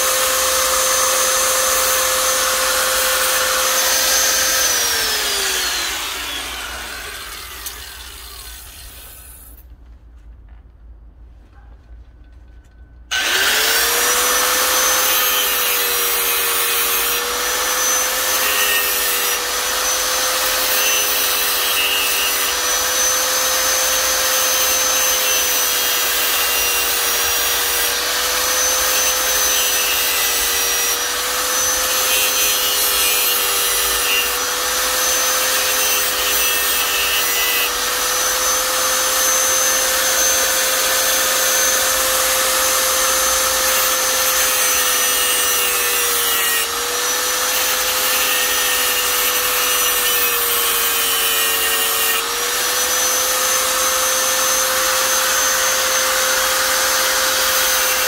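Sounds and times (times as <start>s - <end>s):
mini grinder motor whine: 0.0s - 9.5s, 13.1s - 58.0s
rasping grind: 0.0s - 9.6s, 13.1s - 53.8s.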